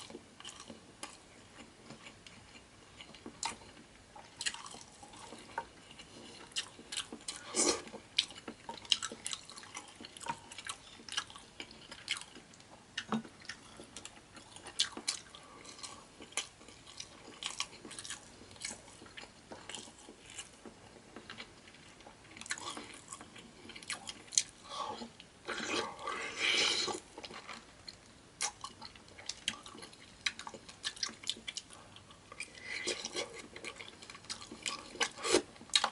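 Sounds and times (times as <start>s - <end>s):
person chewing food: 0.0s - 35.9s.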